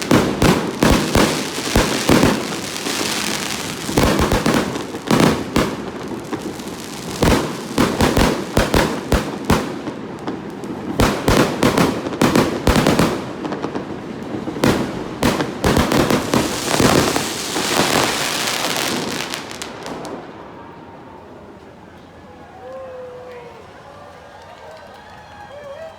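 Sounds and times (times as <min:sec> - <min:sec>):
fireworks sharp bangs: 0:00.0 - 0:21.0
fireworks crackling: 0:00.0 - 0:22.2.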